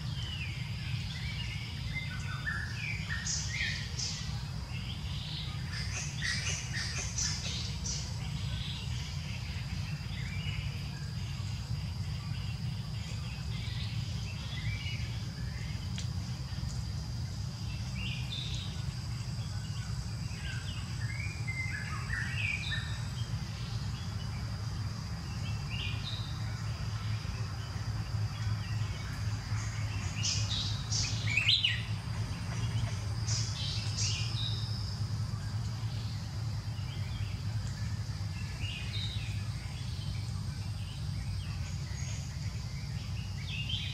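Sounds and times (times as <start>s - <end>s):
small birds chirping: 0.0s - 43.9s
steady high hum: 0.0s - 43.9s.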